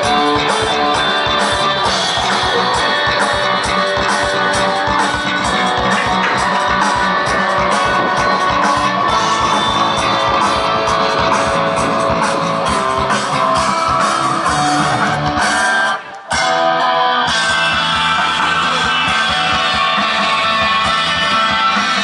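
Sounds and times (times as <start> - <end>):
bass guitar: 0.0 - 22.0
drums: 0.0 - 22.0
electric guitars: 0.0 - 22.0.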